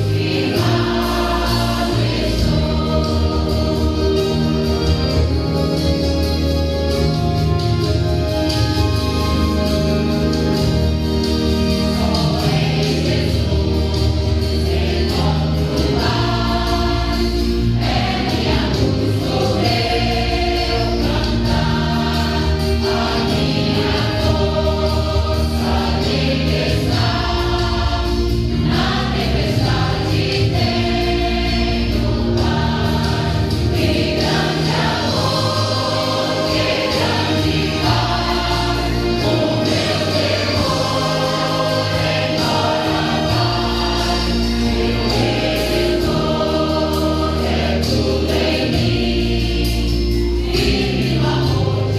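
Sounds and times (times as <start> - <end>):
choir singing a hymn: 0.0 - 51.9
keyboard: 0.0 - 51.9.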